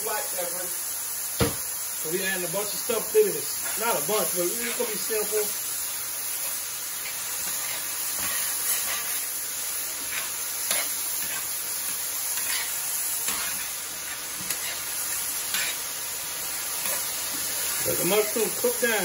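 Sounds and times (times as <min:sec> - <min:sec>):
mushrooms sizzling in a skillet: 0:00.0 - 0:19.0.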